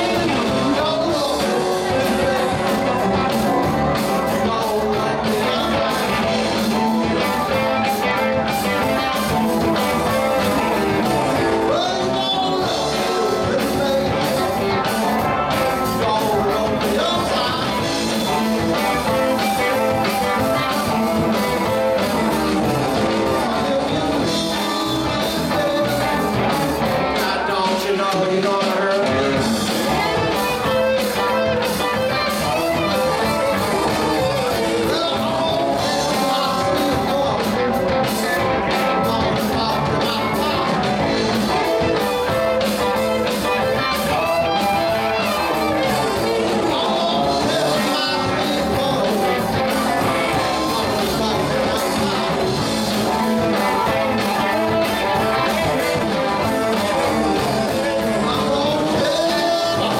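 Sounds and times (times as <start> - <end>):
drum kit: 0.0 - 59.9
electric bass: 0.0 - 59.9
electric guitars: 0.0 - 59.9.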